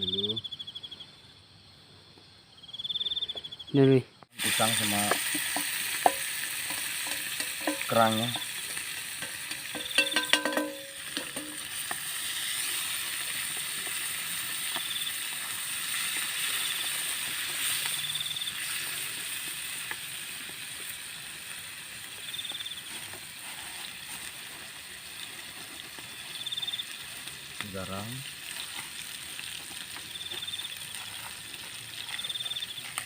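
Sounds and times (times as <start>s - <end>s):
food sizzling in a hot pan: 4.4s - 33.0s.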